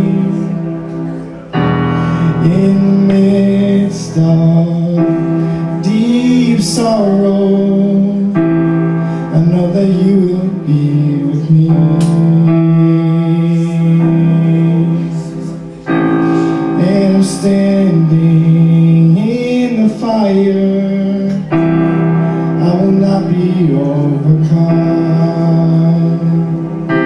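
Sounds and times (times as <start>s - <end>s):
electronic keyboard chords: 0.0s - 27.0s
man singing: 0.0s - 27.0s.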